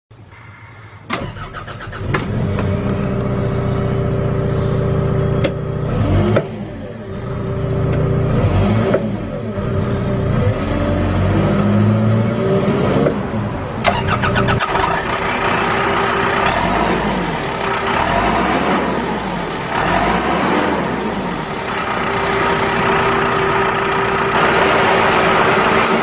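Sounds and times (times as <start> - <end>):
diesel engine starting and running: 0.1 - 26.0.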